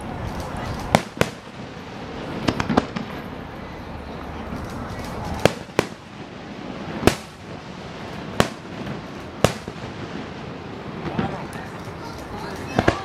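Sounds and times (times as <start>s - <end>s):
firework shells bursting: 0.2s - 3.3s, 4.4s - 13.0s.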